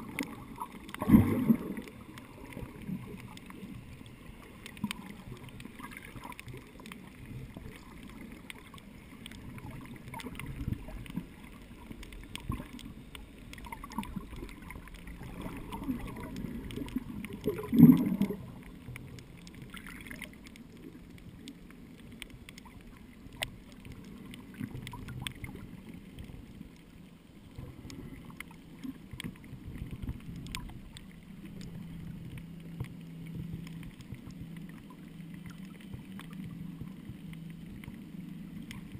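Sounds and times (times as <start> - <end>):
underwater rumble: 0.0 - 38.9.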